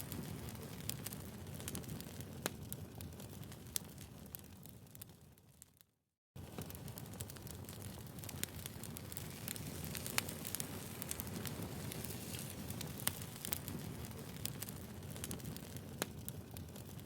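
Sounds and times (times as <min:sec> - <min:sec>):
low rumble of flames: 0:00.0 - 0:05.8, 0:06.4 - 0:17.0
fire crackling and popping: 0:00.0 - 0:17.0.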